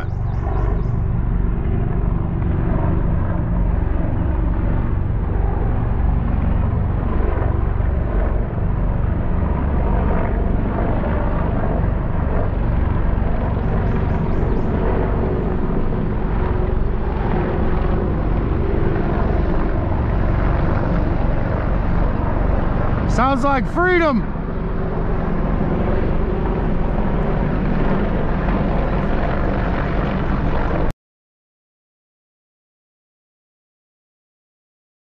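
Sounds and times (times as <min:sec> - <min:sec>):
military aircraft rumble: 0:00.0 - 0:30.9.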